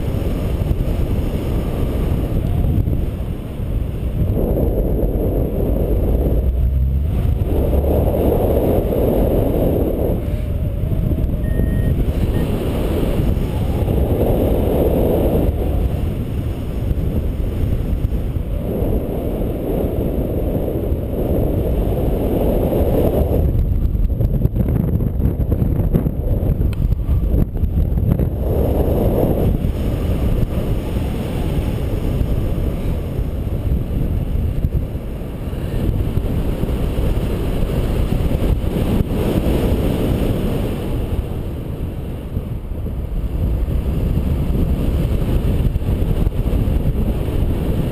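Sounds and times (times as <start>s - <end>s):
wind rushing over microphone: 0.0s - 47.9s.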